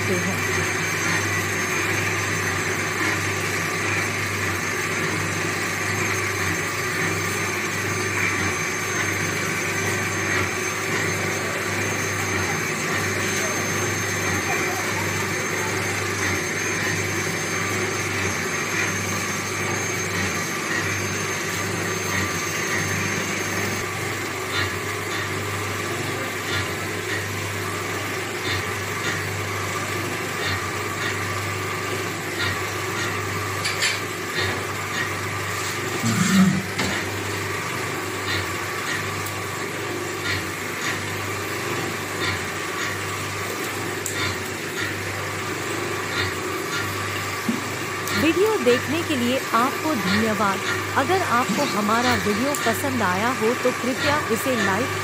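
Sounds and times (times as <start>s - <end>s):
electric stirrer motors humming: 0.0s - 55.0s.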